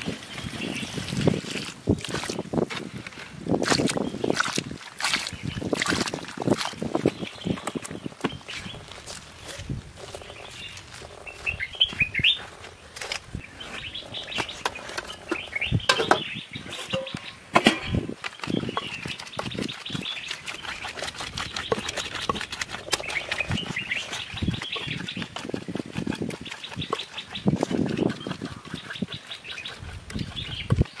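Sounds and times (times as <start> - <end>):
birds chirping: 0.0 - 1.6, 3.8 - 31.0
pestle knocking and scraping in bowl: 0.6 - 31.0.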